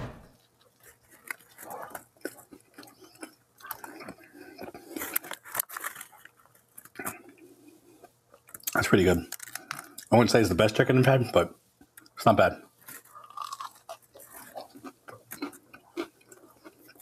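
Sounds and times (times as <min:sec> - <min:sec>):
person chewing food: 0:00.4 - 0:10.1, 0:11.8 - 0:17.0.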